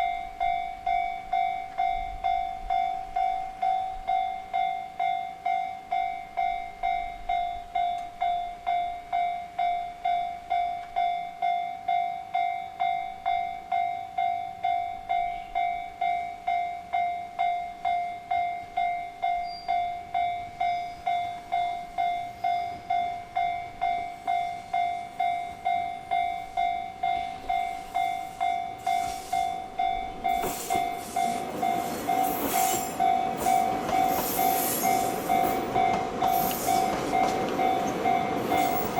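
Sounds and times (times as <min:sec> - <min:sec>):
level crossing warning bell: 0:00.0 - 0:38.9
train passing over crossing: 0:00.0 - 0:38.9.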